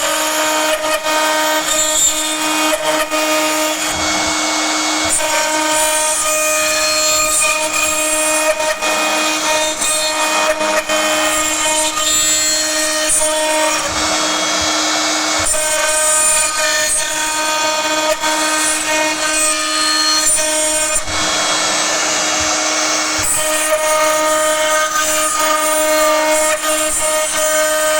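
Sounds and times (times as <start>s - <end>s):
high-pitched metal cutting screech: 0.0s - 27.9s
router spindle tone: 0.0s - 27.9s.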